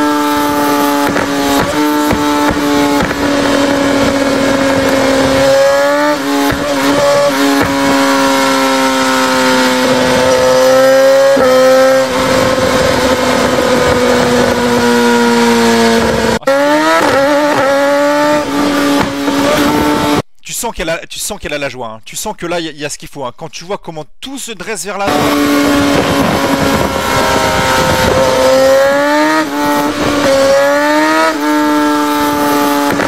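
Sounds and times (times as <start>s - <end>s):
motorcycle engine revving high: 0.0s - 20.2s, 25.0s - 33.0s.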